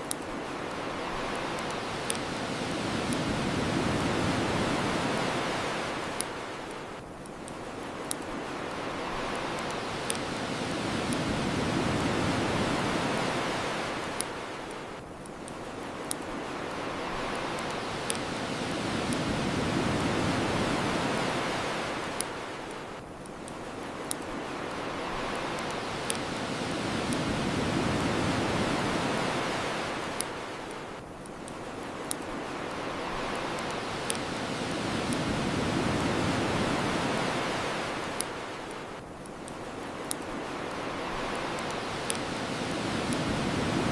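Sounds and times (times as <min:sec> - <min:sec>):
bonfire crackling: 0:00.0 - 0:43.9
ocean waves washing ashore: 0:00.0 - 0:43.9.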